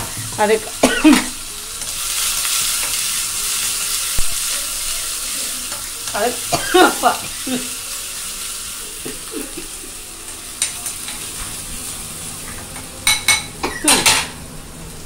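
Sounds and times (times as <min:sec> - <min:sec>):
onion and chilli sizzling in oil: 0:00.0 - 0:15.0.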